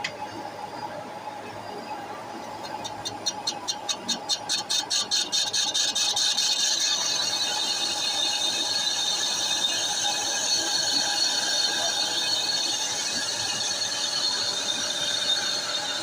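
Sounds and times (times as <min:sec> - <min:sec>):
metal-cutting machine running: 0:02.7 - 0:16.0.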